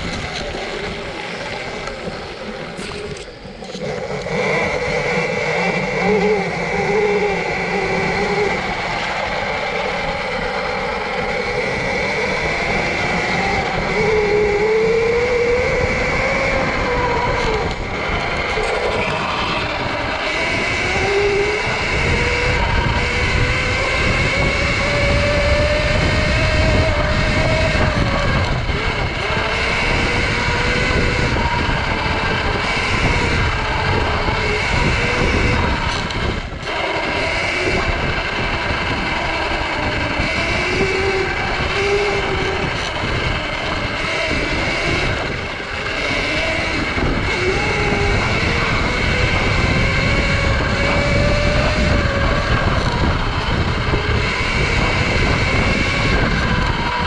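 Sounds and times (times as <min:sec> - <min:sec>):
electric motorbike motor whining: 0:00.0 - 0:57.0
wind and tyre noise: 0:00.0 - 0:57.0.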